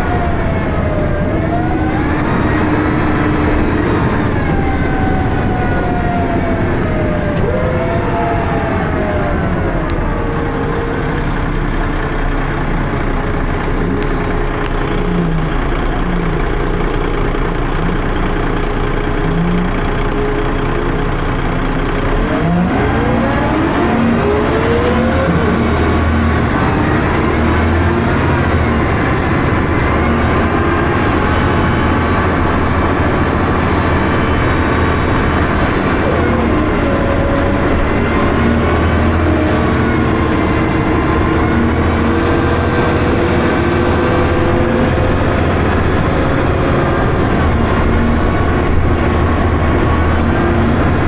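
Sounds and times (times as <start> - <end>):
bus engine running: 0.0 - 51.0.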